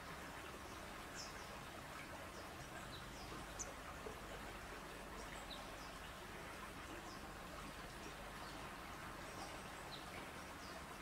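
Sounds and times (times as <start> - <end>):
outdoor hiss: 0.0 - 11.0
small birds chirping: 0.0 - 11.0.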